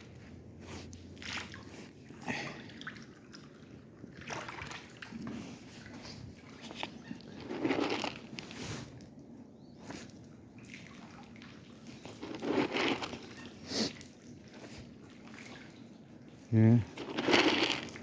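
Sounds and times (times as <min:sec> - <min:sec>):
water sloshing and splashing: 0:00.0 - 0:09.1, 0:09.9 - 0:18.0.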